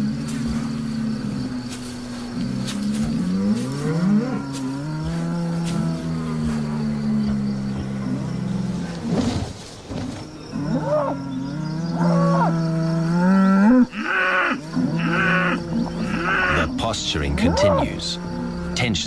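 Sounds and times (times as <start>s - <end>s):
bulls bellowing: 0.0s - 9.4s, 10.0s - 19.0s.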